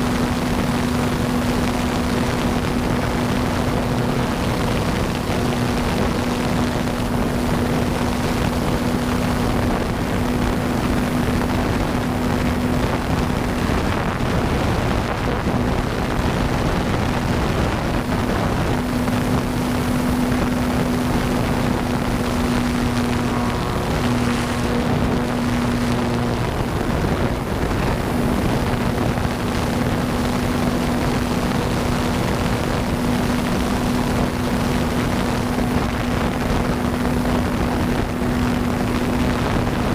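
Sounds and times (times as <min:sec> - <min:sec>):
electric model plane motor humming: 0:00.0 - 0:39.9
wind on microphone: 0:00.0 - 0:39.9.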